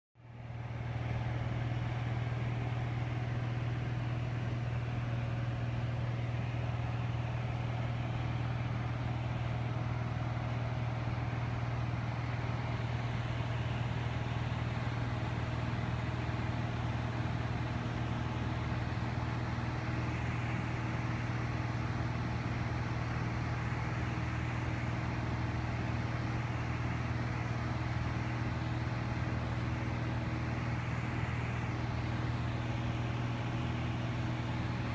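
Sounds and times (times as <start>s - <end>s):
distant propeller plane drone: 0.2s - 34.9s.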